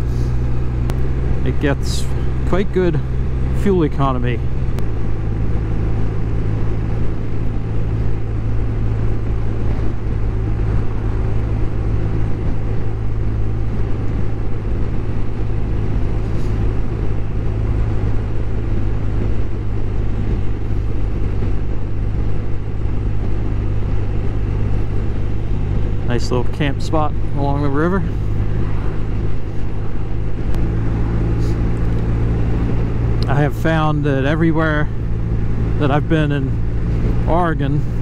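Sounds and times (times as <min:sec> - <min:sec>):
motorcycle engine droning: 0:00.0 - 0:38.0
wind rush: 0:00.0 - 0:38.0.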